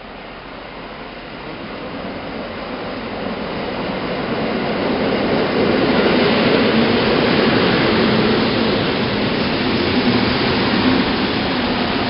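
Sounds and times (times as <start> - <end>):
electric train passing: 0.0 - 12.0.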